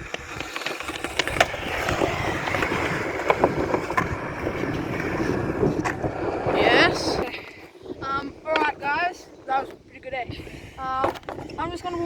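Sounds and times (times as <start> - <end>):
skateboard clacking over joints: 0.0 - 10.1, 10.8 - 12.0
skateboard wheels rolling on concrete: 0.0 - 12.0.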